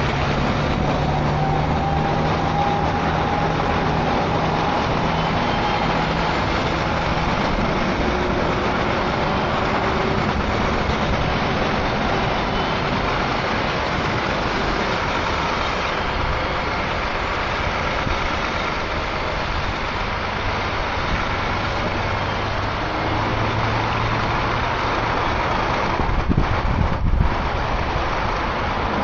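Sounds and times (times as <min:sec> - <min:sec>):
diesel truck engine running: 0:00.0 - 0:29.0
steady rushing noise: 0:00.0 - 0:29.0.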